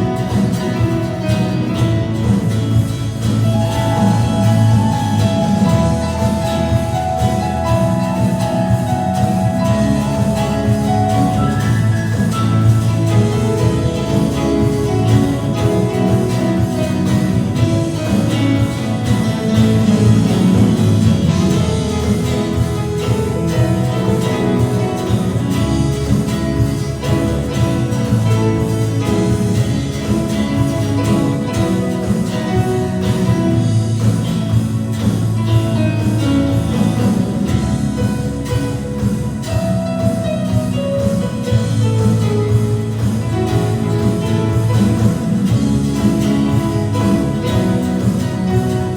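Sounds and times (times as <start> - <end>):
guitar: 0.0 - 48.9
worship band playing: 0.0 - 48.9.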